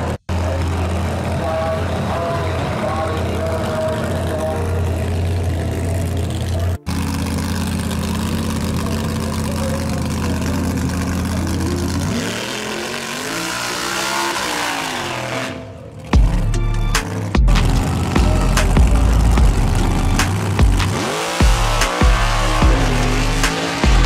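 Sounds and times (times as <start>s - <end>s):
drag car engine revving: 0.0s - 24.0s
engine idling: 0.0s - 24.0s.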